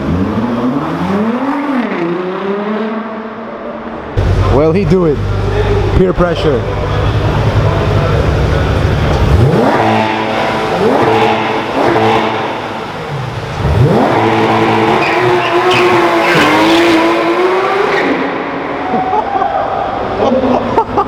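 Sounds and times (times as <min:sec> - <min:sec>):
car engine revving: 0:00.0 - 0:19.1.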